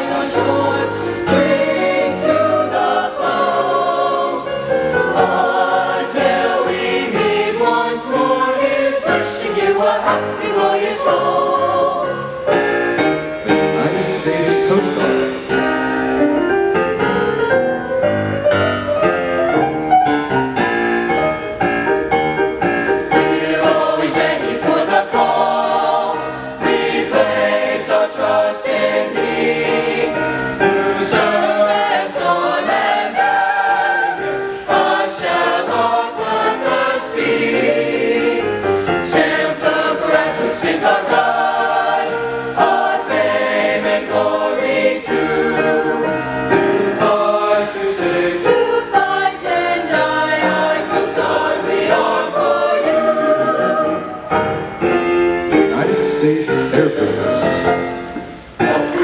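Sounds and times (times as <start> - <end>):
mixed choir singing: 0.0 - 16.6, 22.8 - 59.0.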